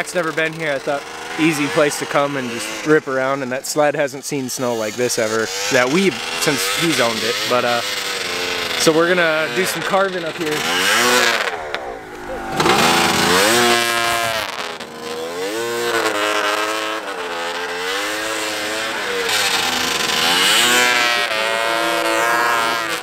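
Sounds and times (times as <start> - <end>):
snowmobile engine revving: 0.0 - 3.6, 4.6 - 23.0.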